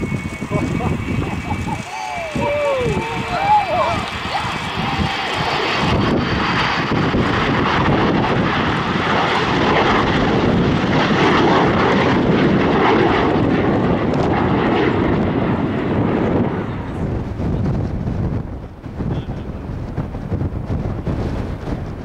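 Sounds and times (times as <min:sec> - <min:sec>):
loud jet engine noise: 0:00.0 - 0:22.0.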